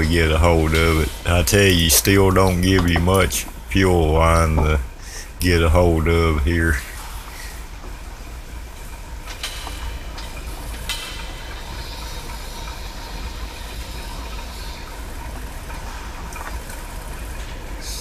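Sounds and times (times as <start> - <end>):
steady low hum and hiss: 0.0 - 18.0.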